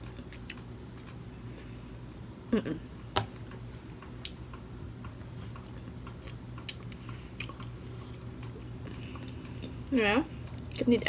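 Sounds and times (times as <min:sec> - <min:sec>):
close chewing with crisp clicks: 0:00.0 - 0:01.7, 0:03.5 - 0:11.0.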